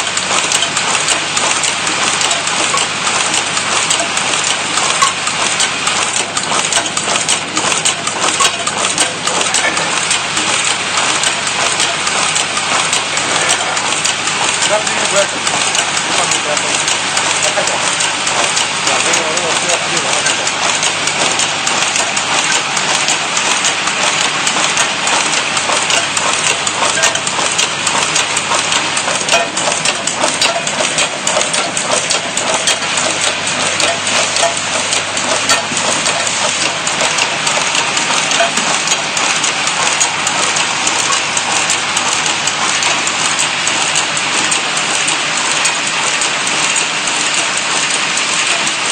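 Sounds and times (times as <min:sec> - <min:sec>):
machinery clattering: 0:00.0 - 0:48.9.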